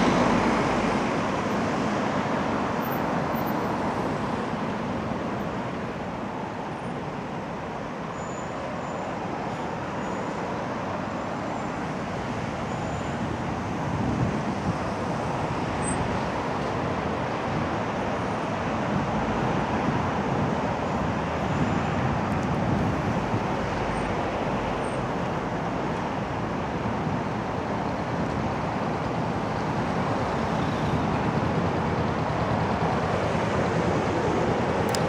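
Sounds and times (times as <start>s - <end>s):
engines idling in traffic: 0.0s - 35.0s
road noise: 0.0s - 35.0s.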